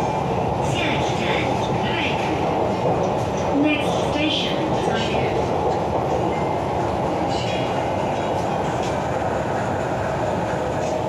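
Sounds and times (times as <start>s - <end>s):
metro train wheels rumbling: 0.0s - 11.0s.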